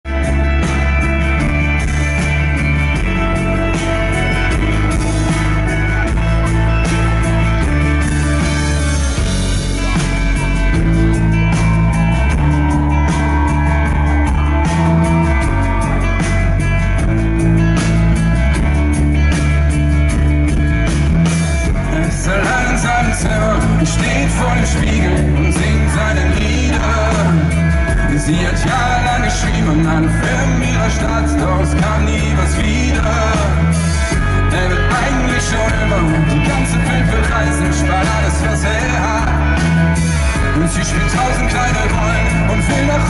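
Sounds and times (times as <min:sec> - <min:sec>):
live pop-rock band: 0:00.0 - 0:43.0
person singing: 0:00.1 - 0:17.9, 0:21.6 - 0:43.0.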